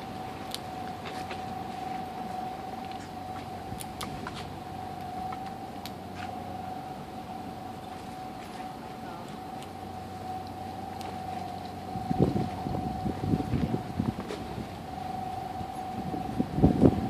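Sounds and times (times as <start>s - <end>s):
mechanical hum and whine: 0.0s - 17.0s.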